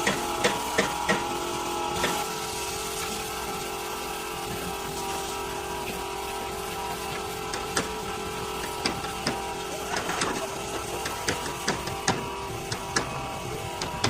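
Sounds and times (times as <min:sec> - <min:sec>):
small electric motor humming: 0:00.0 - 0:14.0.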